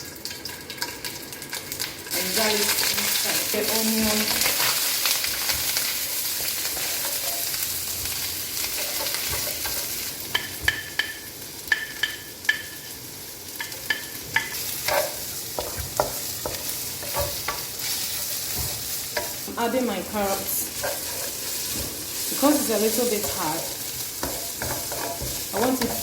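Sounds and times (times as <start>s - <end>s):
aromatics sizzling in hot oil: 0.0s - 26.0s.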